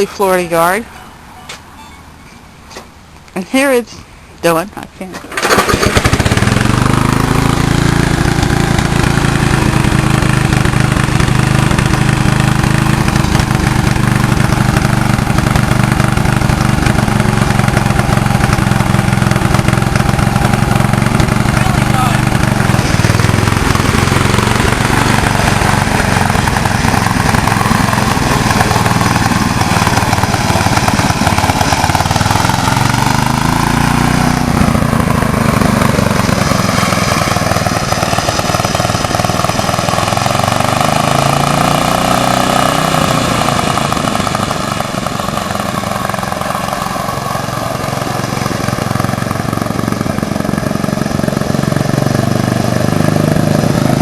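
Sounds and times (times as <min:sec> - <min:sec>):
riding lawnmower engine: 0:00.0 - 0:54.0.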